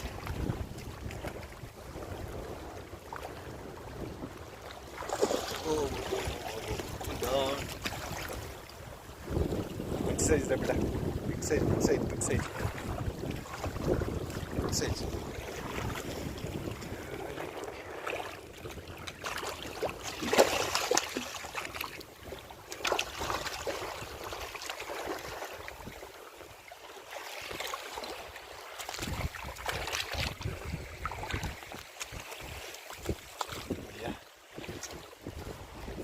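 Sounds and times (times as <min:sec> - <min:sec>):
wind rumbling on microphone: 0:00.0 - 0:26.6, 0:28.9 - 0:36.0
water splashing and sloshing: 0:00.0 - 0:36.0.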